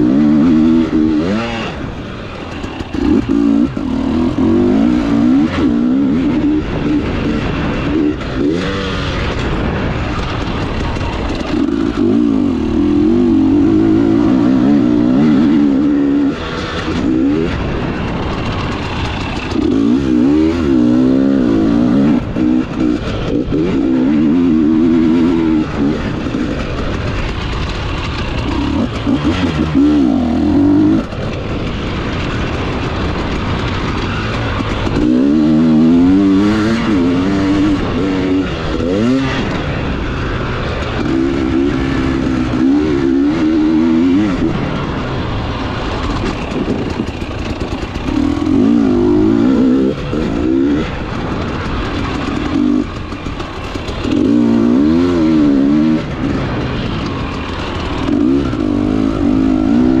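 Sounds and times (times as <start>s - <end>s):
dirt bike engine revving: 0.0s - 60.0s.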